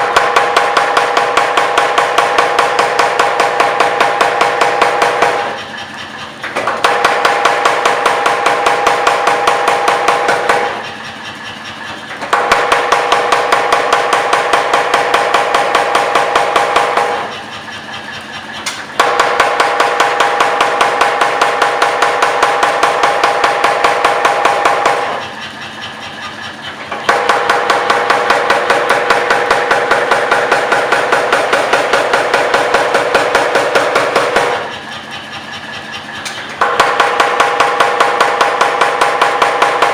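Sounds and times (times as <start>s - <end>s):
power hammer pounding steel: 0.0s - 39.9s.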